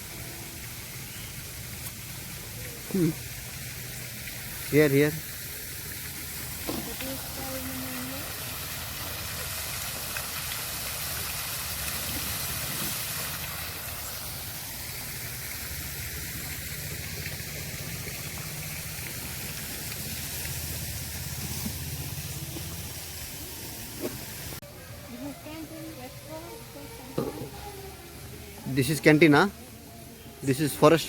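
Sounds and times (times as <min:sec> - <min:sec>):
hissing rushing outdoor noise: 0:00.0 - 0:31.0.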